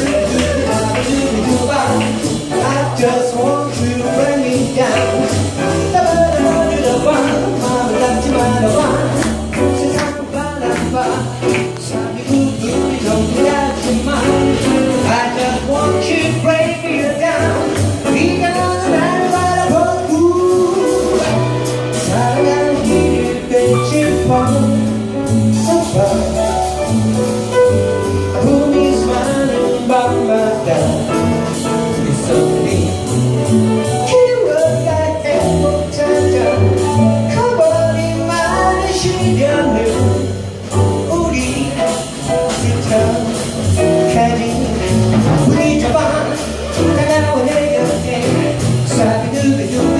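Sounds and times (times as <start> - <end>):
drum kit with cymbals: 0.0 - 49.9
grand piano: 0.0 - 49.9
man singing: 0.0 - 49.9
upright double bass: 0.0 - 49.9.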